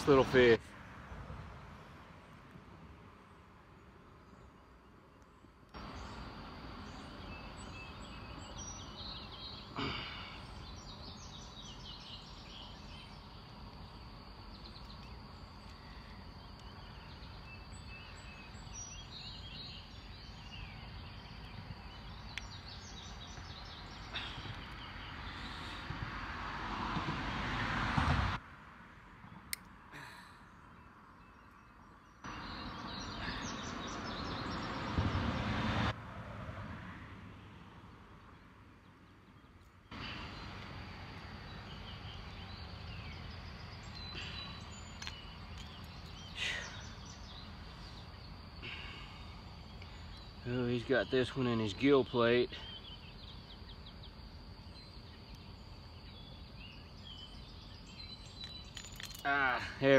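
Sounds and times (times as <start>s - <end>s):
outdoor background noise: 0.0s - 59.9s
small birds chirping: 3.1s - 26.2s, 29.2s - 35.3s, 38.0s - 59.9s.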